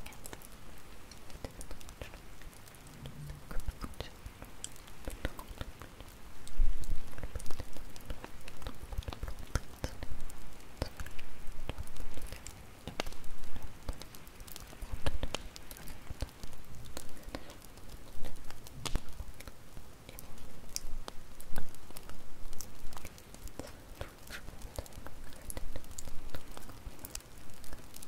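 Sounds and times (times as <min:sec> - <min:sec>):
bonfire crackling: 0:00.0 - 0:28.0.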